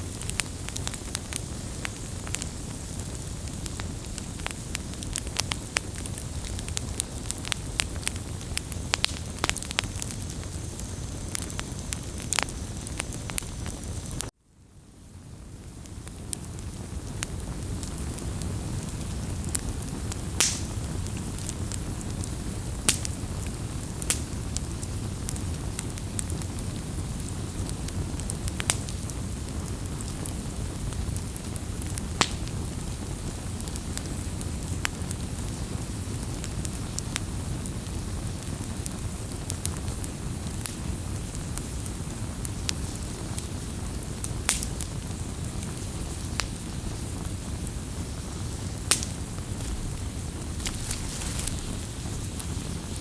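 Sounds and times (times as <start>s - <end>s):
burning wood crackling and popping: 0.0s - 53.0s
low rumble of flames: 0.0s - 53.0s.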